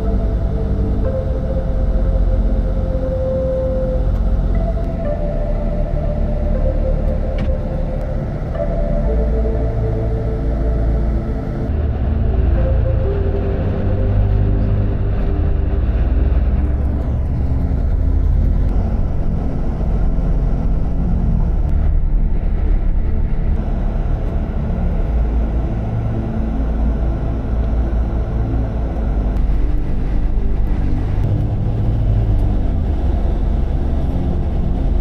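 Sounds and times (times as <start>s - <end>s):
bus engine drone: 0.0s - 35.0s
road noise: 0.0s - 35.0s.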